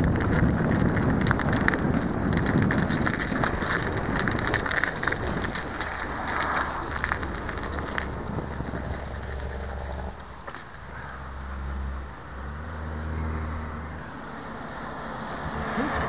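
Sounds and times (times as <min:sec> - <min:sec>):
engine humming: 0:00.0 - 0:16.0
snow crunching under tyres: 0:00.0 - 0:16.0.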